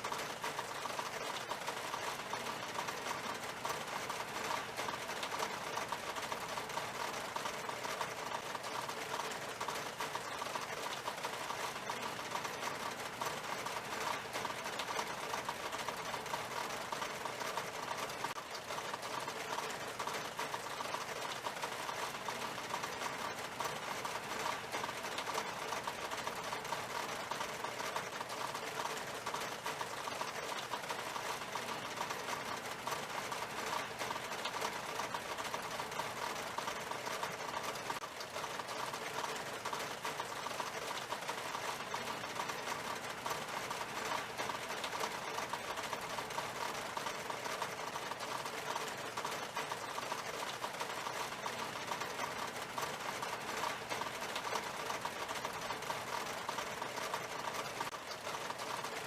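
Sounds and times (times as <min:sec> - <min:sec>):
rain on window glass: 0:00.0 - 0:59.0.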